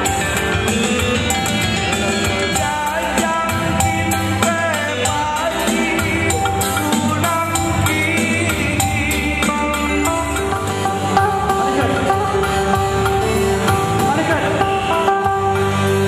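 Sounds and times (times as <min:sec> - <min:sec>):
dance music with quick beat: 0:00.0 - 0:16.0.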